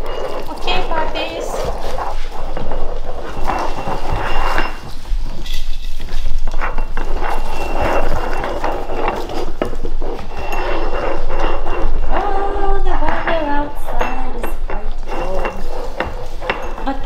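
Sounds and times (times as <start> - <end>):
glass food bowls clinking: 0.0 - 1.8, 2.5 - 17.0.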